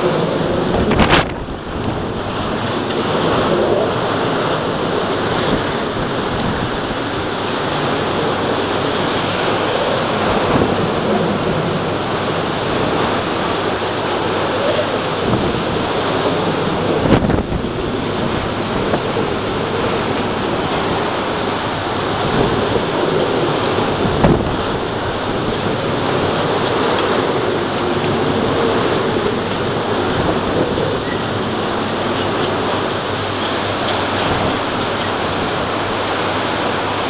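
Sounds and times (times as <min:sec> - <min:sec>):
storm wind and rain: 0:00.0 - 0:37.0.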